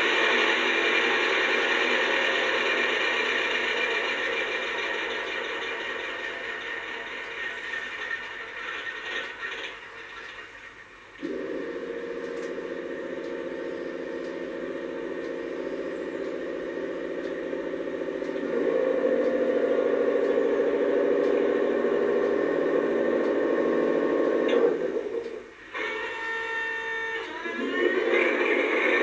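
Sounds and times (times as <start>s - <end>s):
diesel engine sound from loudspeaker: 0.0s - 8.0s, 11.2s - 29.0s.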